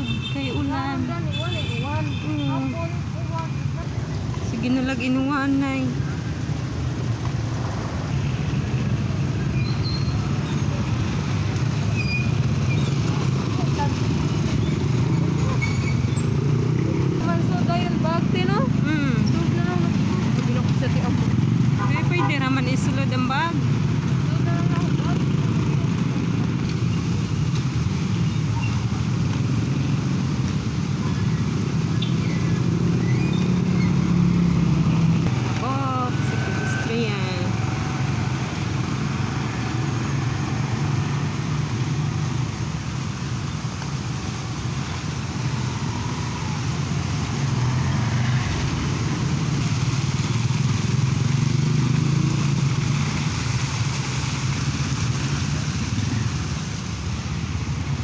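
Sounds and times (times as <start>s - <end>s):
motorcycle engines passing: 0.0s - 58.0s
tyre noise on wet road: 0.0s - 58.0s.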